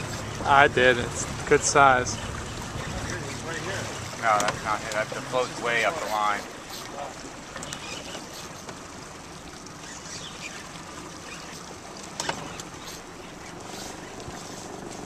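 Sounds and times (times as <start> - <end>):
steady wind: 0.0 - 15.0
water noise: 0.0 - 15.0.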